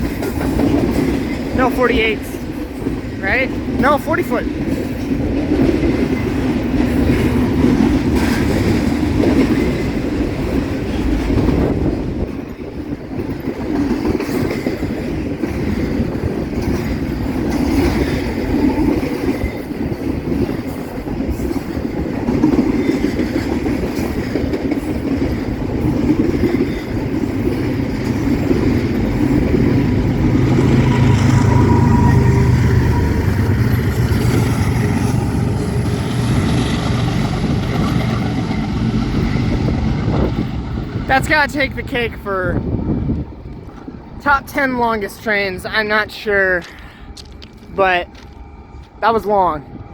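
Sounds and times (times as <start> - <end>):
freight train wheels rumbling: 0.0 - 49.9.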